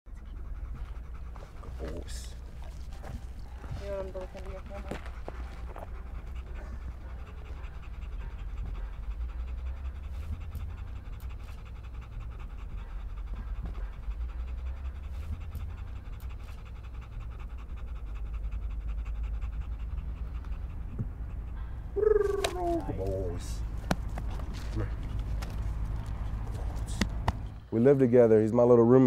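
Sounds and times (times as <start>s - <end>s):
dog panting: 0.1s - 28.4s.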